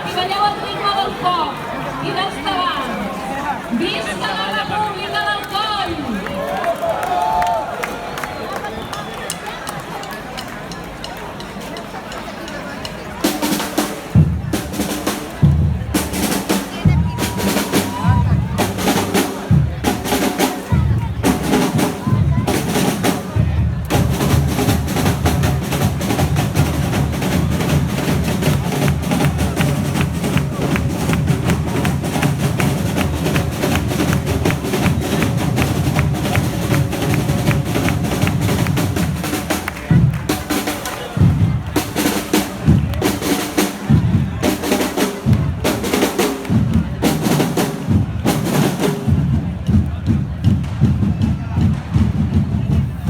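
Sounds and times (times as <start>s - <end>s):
drum band playing fast rhythm: 10.4s - 53.0s.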